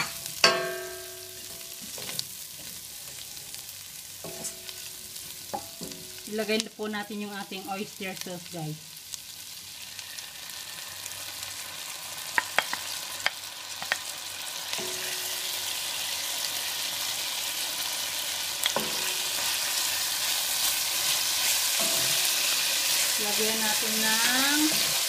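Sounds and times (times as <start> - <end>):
food sizzling in a metal pan: 0.0 - 25.0.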